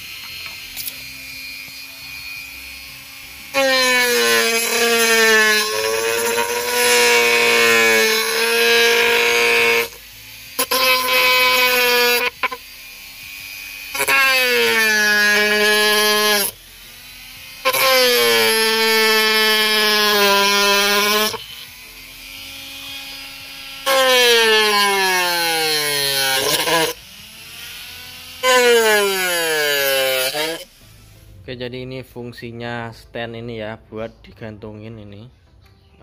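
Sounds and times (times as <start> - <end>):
rotary tool cutting wood: 0.0 - 30.8.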